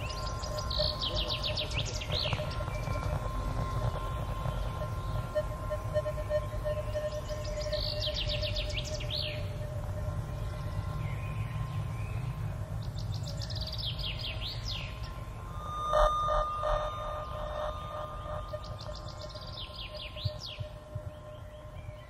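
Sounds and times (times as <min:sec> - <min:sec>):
faint held tone: 0:00.0 - 0:22.0
low rumble: 0:00.0 - 0:22.0
songbird singing: 0:00.0 - 0:22.0.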